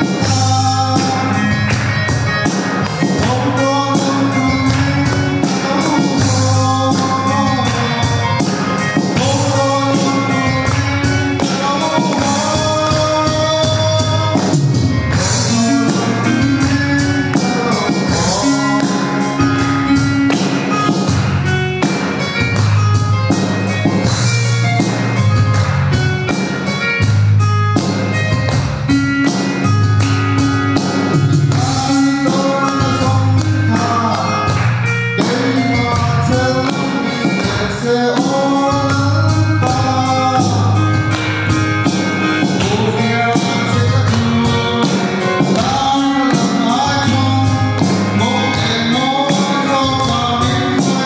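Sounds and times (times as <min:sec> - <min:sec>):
man singing into microphone: 0:00.0 - 0:21.9, 0:30.7 - 0:51.0
instrumental music with steady beat: 0:00.0 - 0:51.0.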